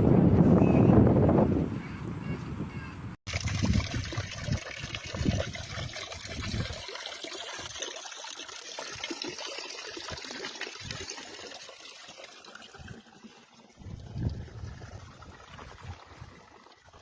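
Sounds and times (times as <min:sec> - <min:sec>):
water trickling: 0:03.3 - 0:17.0.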